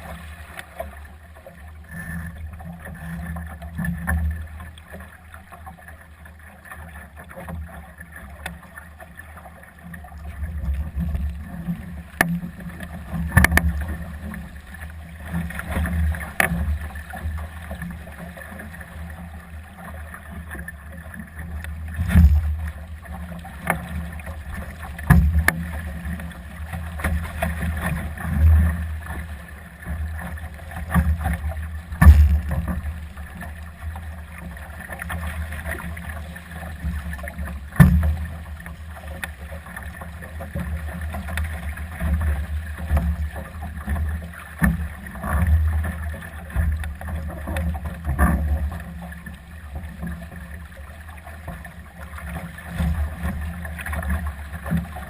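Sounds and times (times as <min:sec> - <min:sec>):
water slapping against hull: 0:00.0 - 0:55.0.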